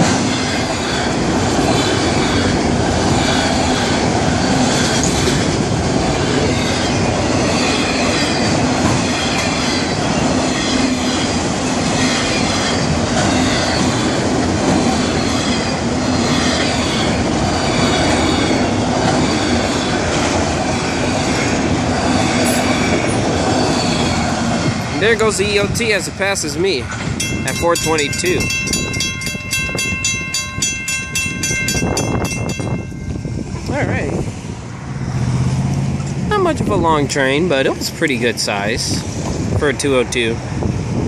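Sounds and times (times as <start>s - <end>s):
freight train wheels rumbling on rail: 0.0s - 41.0s.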